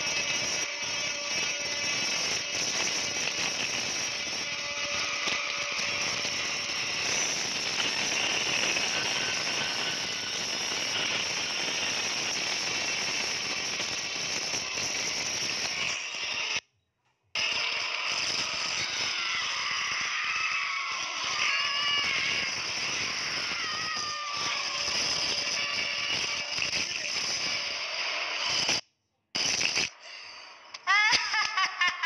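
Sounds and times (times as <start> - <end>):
noisy horror sound effects: 0.0 - 16.6, 17.4 - 28.8.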